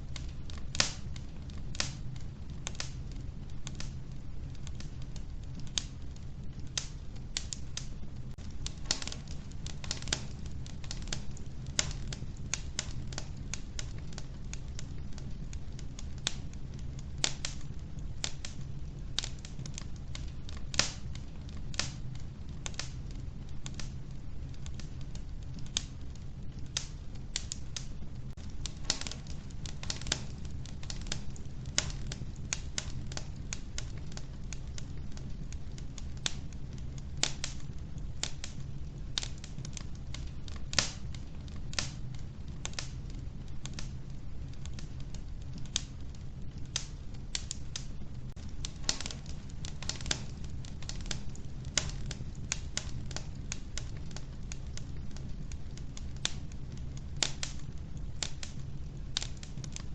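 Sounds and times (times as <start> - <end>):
logs crackling in stove: 0.0 - 59.9.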